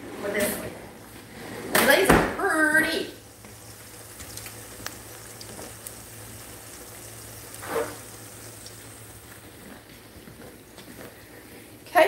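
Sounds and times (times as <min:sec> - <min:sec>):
onion rings deep-frying in oil: 0:01.8 - 0:12.0.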